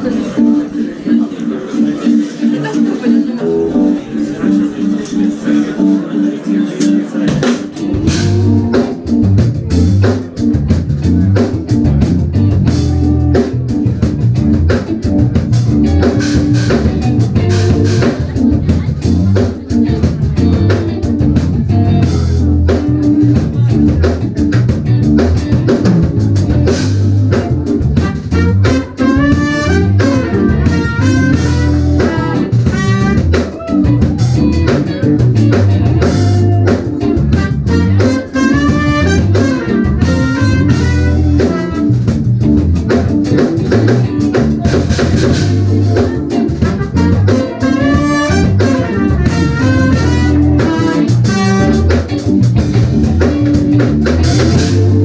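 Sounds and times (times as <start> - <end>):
drum kit: 0.0 - 55.0
guitar melody: 0.0 - 55.0
keyboard melody: 0.0 - 55.0
electric bass: 7.3 - 55.0.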